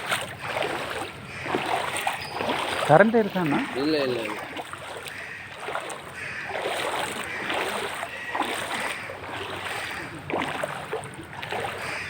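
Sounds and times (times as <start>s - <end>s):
wading through floodwater: 0.0s - 12.0s.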